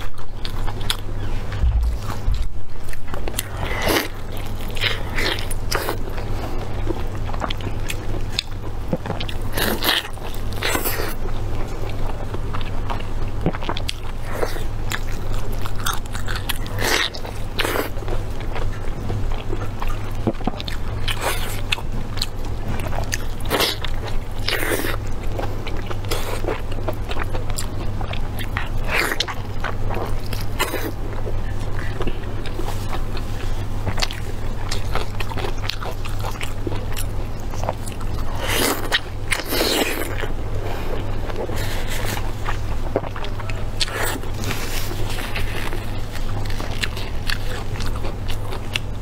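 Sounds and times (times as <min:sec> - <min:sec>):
biting and chewing meat: 0:00.0 - 0:49.0
steady low hum: 0:00.0 - 0:49.0.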